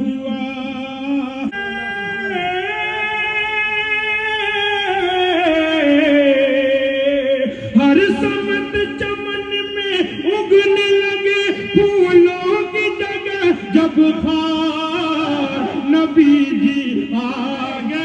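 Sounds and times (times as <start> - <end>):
man chanting over loudspeaker: 0.0 - 18.0.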